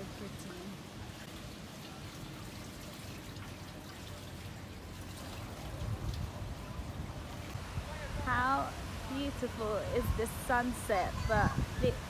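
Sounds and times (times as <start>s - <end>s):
water trickling and pouring: 0.0s - 12.0s.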